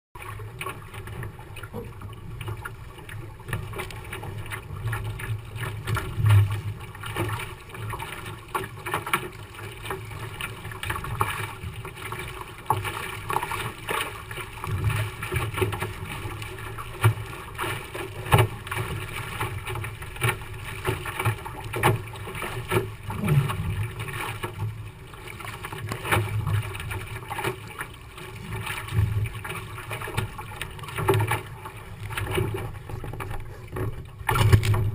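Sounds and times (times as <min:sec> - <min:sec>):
water splashing past hull: 0:00.2 - 0:34.9.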